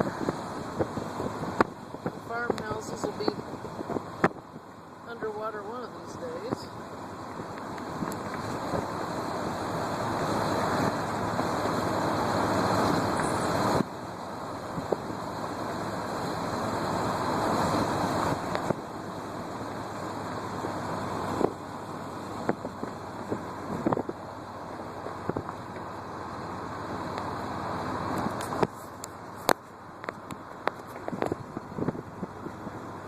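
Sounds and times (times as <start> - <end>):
tyre and wind road noise: 0.0 - 33.0.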